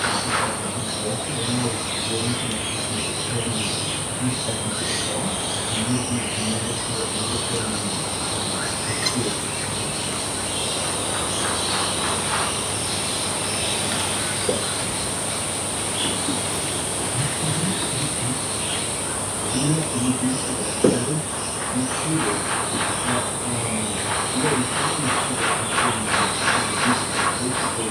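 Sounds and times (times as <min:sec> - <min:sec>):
faint chirps: 0:00.0 - 0:27.9
insect chorus drone: 0:00.0 - 0:27.9.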